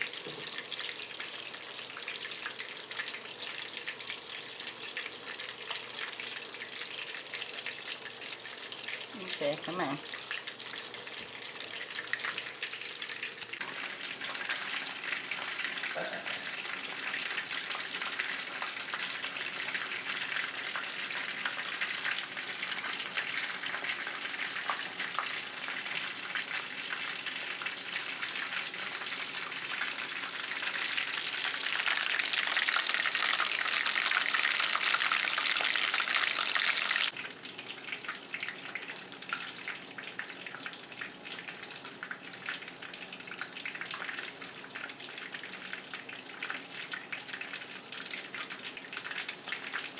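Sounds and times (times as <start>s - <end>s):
fritters sizzling in hot oil: 0.0s - 49.9s.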